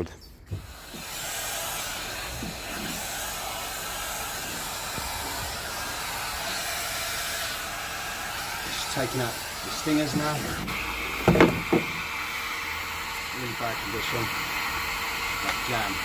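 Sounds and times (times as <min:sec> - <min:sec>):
vacuum cleaner running: 0:00.5 - 0:16.0.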